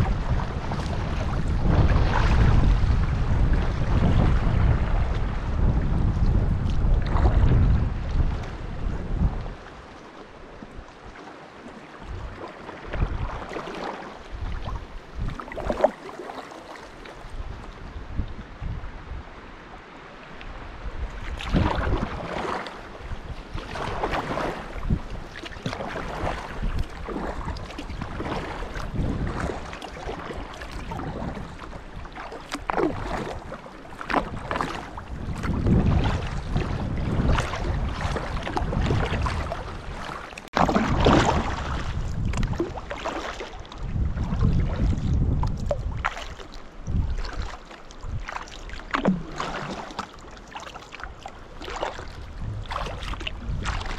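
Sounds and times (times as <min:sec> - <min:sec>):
kayak paddle splashing water: 0:00.0 - 0:17.9, 0:20.4 - 0:53.9
wind rumbling on microphone: 0:00.0 - 0:53.9.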